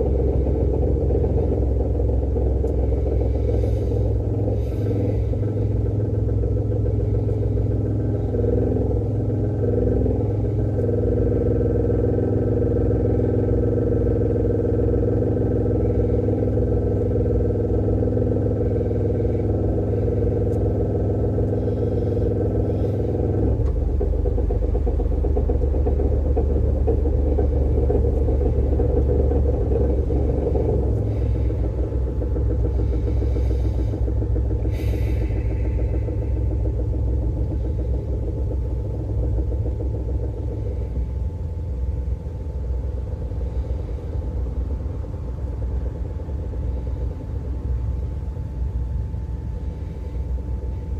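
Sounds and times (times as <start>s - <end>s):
car engine running: 0.0s - 50.9s.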